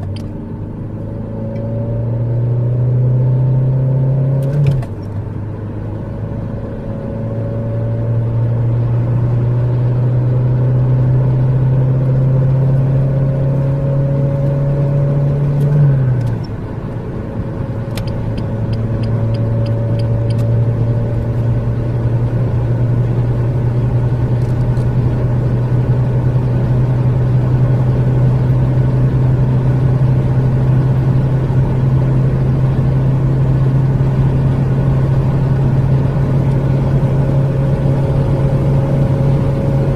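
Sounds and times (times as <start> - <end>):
turbodiesel engine accelerating: 0.0 - 39.9.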